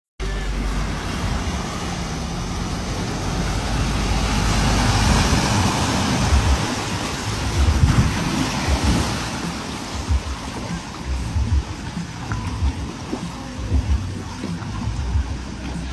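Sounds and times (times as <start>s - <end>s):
water surging and splashing: 0.2s - 15.9s.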